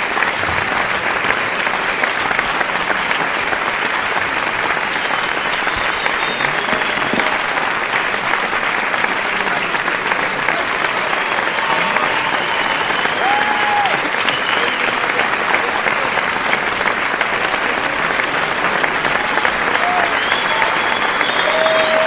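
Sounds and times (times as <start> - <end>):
large crowd applauding: 0.0 - 22.0.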